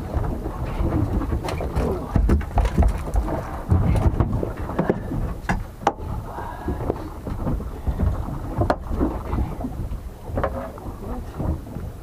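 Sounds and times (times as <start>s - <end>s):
knocks and thuds on boat deck: 0.0s - 12.0s
wind buffeting microphone: 0.0s - 12.0s.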